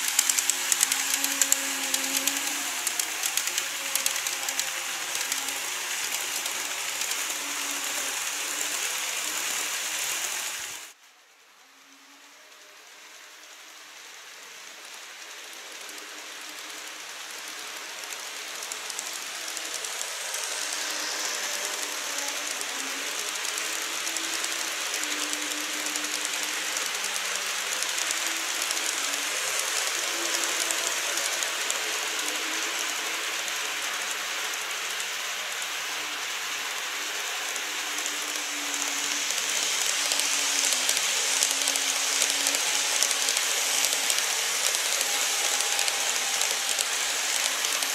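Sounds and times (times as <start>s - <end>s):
model train wheels rattling: 0.0s - 11.0s, 13.4s - 47.9s.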